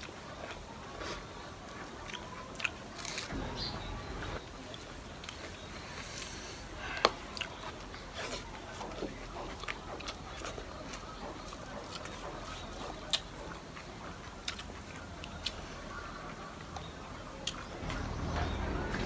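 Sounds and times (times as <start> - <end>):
wet chewing and mouth smacks: 0.0 - 5.7, 6.8 - 19.0.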